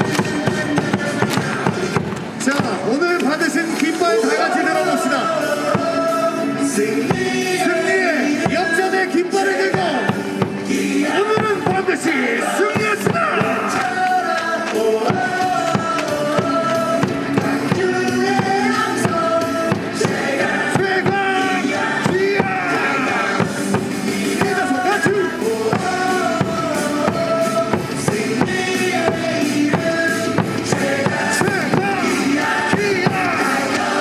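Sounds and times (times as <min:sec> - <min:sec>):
cheer song over loudspeakers: 0:00.0 - 0:34.0.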